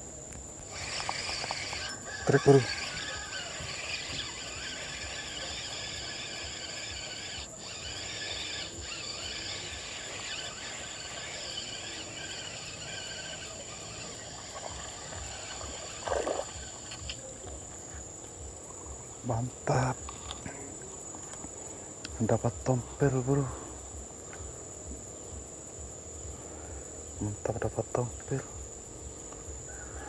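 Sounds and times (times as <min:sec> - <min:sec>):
high continuous whine: 0:00.0 - 0:30.0
insects chorus hissing: 0:00.0 - 0:30.0.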